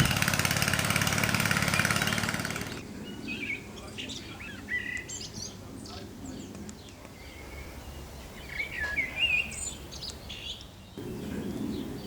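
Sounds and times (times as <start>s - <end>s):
wild birds singing: 0.0s - 12.0s.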